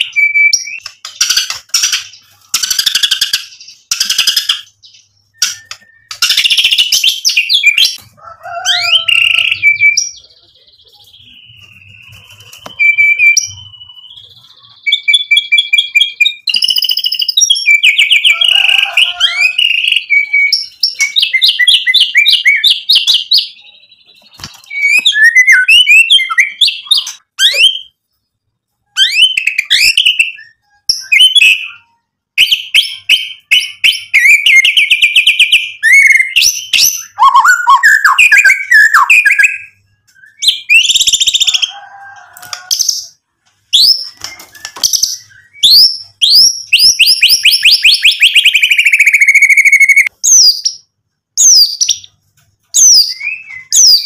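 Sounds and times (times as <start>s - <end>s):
bird singing trills and whistles: 0.0s - 8.0s, 8.6s - 28.0s, 28.9s - 41.7s, 42.7s - 54.0s.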